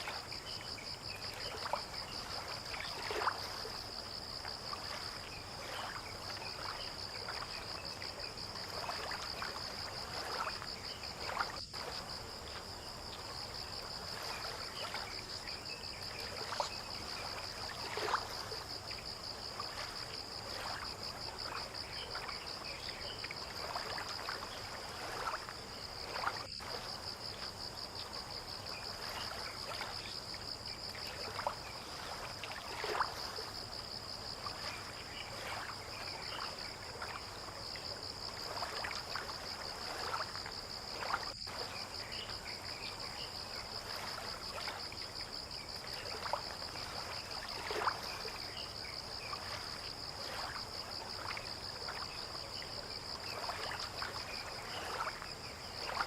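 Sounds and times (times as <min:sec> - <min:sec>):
insect chorus: 0:00.0 - 0:56.0
water lapping with splashes: 0:00.0 - 0:56.0.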